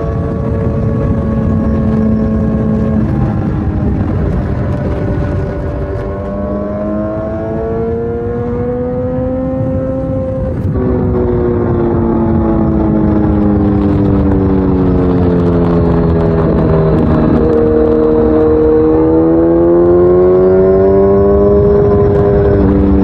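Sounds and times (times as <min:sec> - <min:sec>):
motorcycle engine revving: 0:00.0 - 0:23.0
wind and road noise: 0:00.0 - 0:23.0.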